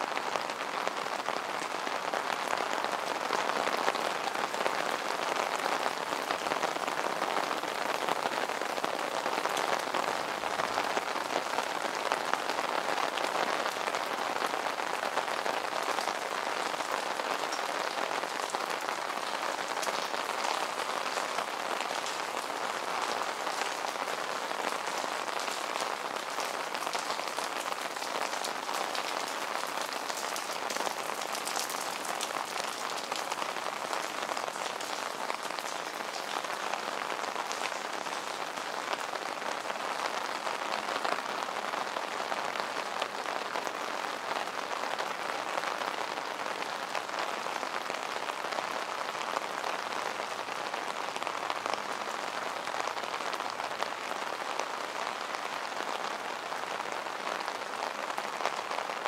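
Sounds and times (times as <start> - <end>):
heavy rain on wet streets: 0.0 - 59.0.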